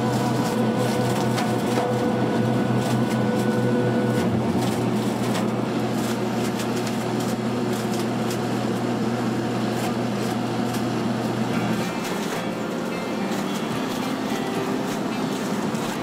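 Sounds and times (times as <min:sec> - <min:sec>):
harvester and tractor humming: 0:00.0 - 0:16.0
higher mechanical whine: 0:00.0 - 0:16.0.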